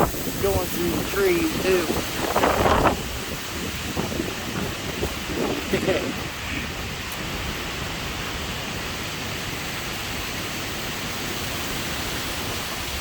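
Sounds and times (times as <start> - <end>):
wind rushing through leaves: 0.0 - 13.0.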